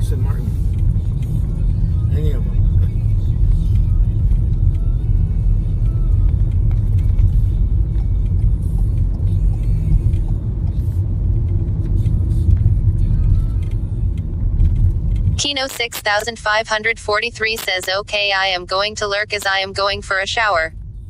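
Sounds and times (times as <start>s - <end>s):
car interior rumble: 0.0s - 21.0s.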